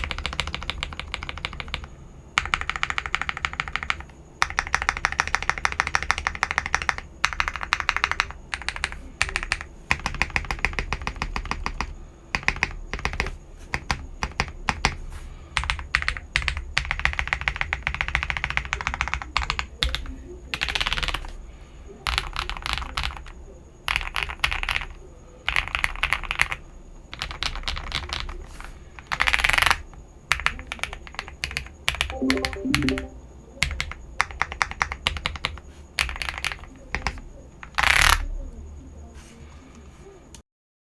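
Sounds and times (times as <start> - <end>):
fast typing on mechanical keyboard: 0.0 - 21.4, 22.0 - 38.3.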